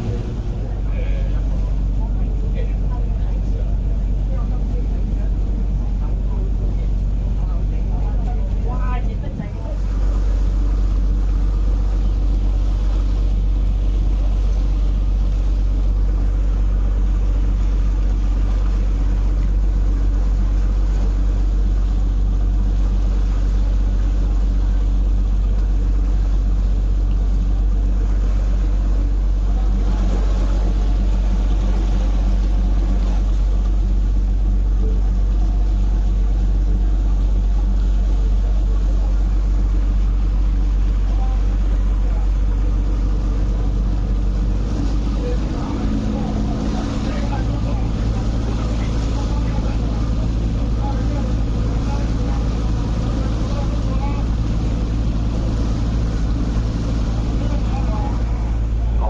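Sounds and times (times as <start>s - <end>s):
ferry engine droning: 0.0s - 59.0s.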